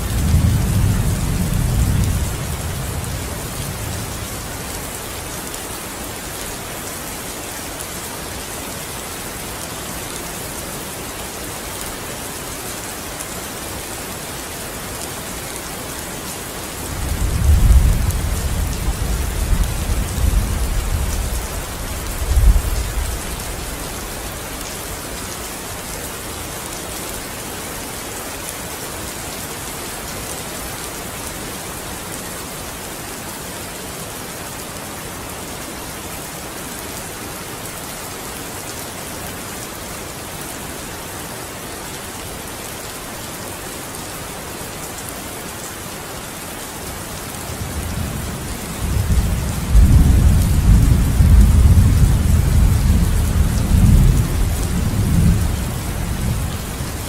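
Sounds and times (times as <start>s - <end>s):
rain on a window: 0.0s - 57.0s.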